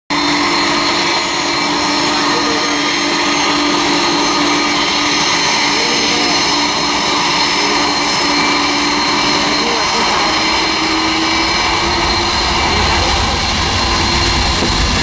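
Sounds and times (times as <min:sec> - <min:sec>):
jet engines whining: 0:00.1 - 0:15.0.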